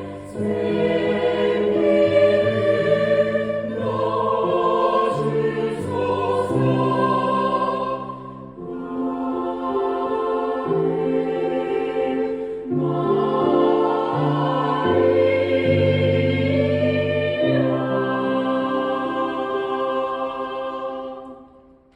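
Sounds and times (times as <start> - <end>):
choir singing held chords: 0.0 - 21.9.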